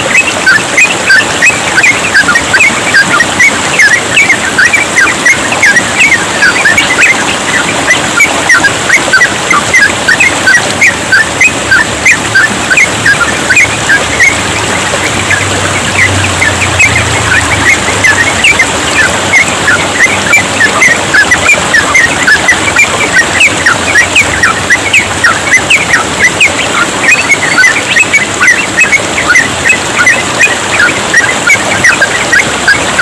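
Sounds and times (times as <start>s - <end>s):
bird chirping song: 0.0s - 33.0s
water trickling: 0.0s - 33.0s.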